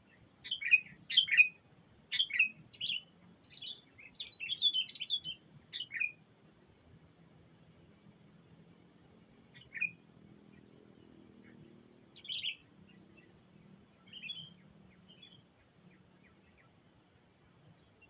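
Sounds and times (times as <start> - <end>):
faint low hum: 0.0 - 18.0
songbird chirping: 0.0 - 18.0.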